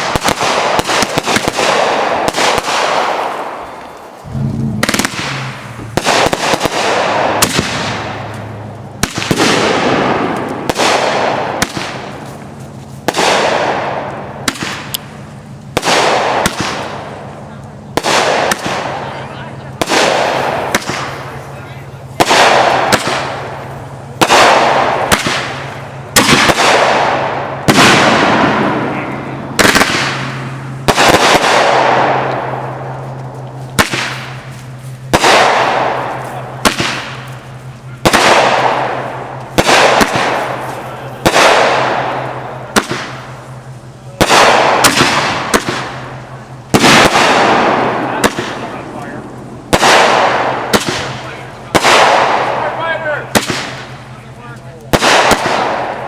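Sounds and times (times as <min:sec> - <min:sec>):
fireworks bursting: 0:00.0 - 0:56.0
steady low hum: 0:00.0 - 0:56.0.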